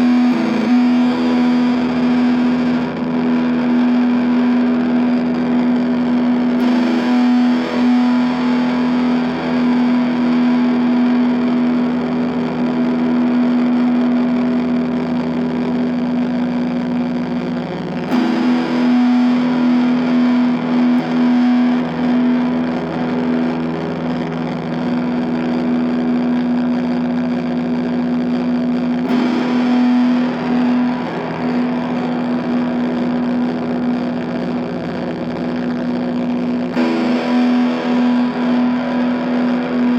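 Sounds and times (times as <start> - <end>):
distorted electric guitar notes: 0.0 - 39.9.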